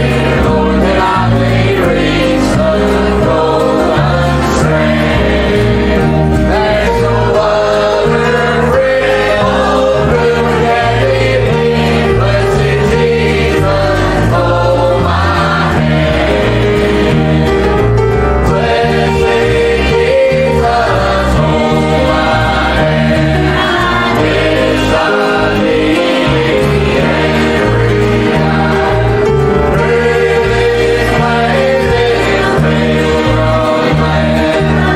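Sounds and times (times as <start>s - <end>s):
choir singing a hymn: 0.0s - 34.9s
instrumental accompaniment: 0.0s - 34.9s.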